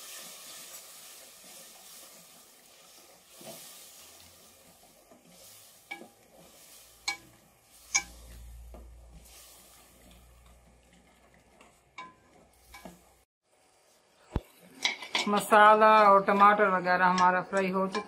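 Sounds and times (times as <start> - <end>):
wooden spoon stirring: 0.0 - 13.8, 14.7 - 18.0
spices frying in oil: 0.0 - 18.0.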